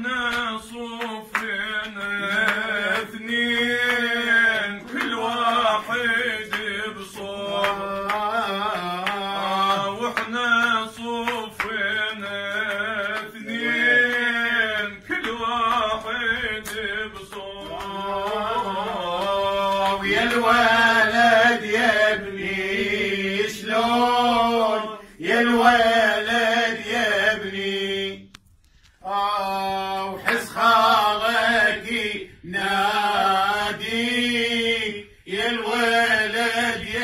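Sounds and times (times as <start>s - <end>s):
man singing melismatic vocal line: 0.0s - 28.2s, 29.0s - 37.0s.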